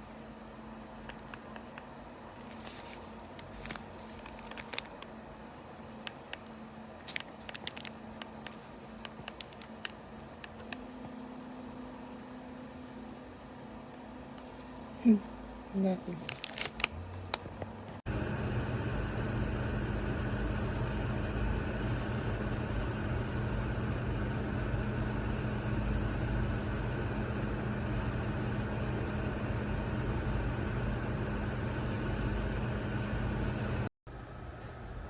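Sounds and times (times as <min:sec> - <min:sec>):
window fan running: 0:00.0 - 0:35.0.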